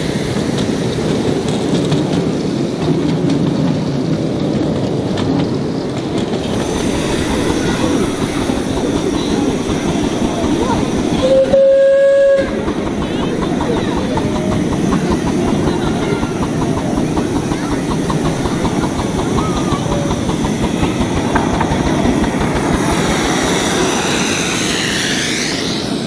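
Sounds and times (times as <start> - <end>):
steam locomotive exhaust beats: 0.0 - 26.0
wheels rumbling on rails: 0.0 - 26.0.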